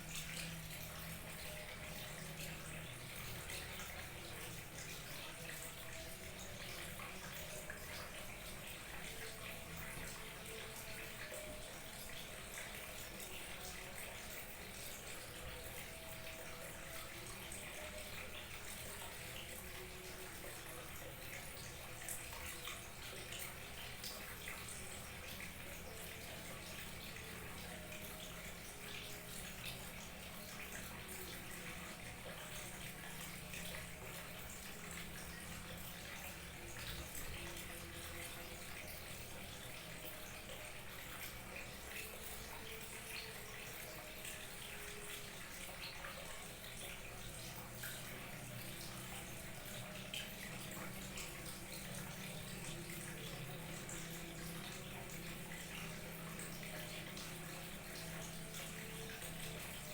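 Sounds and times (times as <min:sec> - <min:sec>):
small waterfall splashing: 0:08.1 - 0:59.9.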